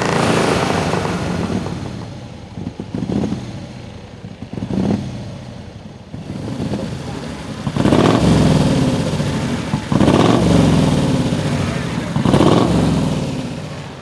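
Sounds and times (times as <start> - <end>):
racing car engine revving: 0.0 - 3.8, 6.1 - 14.0.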